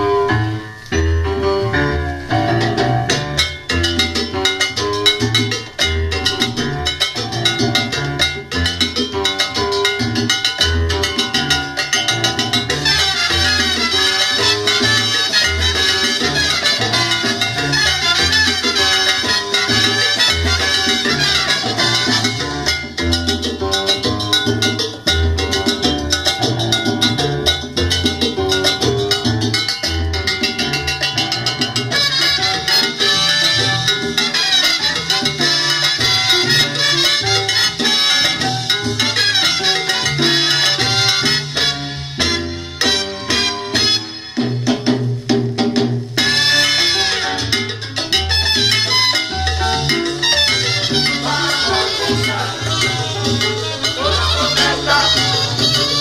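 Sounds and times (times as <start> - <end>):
bass line: 0.0 - 43.9, 44.6 - 56.0
instrumental salsa music: 0.0 - 56.0
latin percussion: 0.0 - 56.0.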